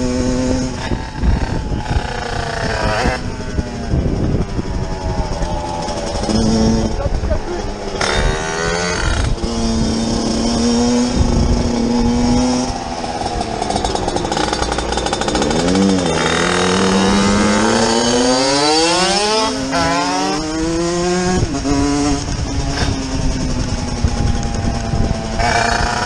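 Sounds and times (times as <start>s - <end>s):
motorcycle engine revving: 0.0s - 26.0s
small motorcycle engines: 0.0s - 26.0s.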